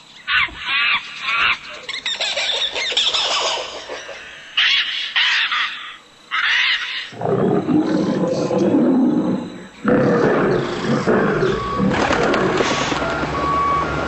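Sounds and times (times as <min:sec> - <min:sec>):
loud bird calls: 0:00.0 - 0:13.7.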